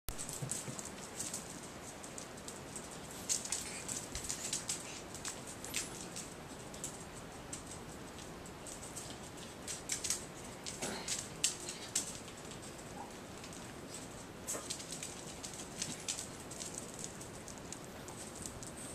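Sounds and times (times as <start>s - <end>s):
puppy claws clicking on tiles: 0.2s - 18.9s.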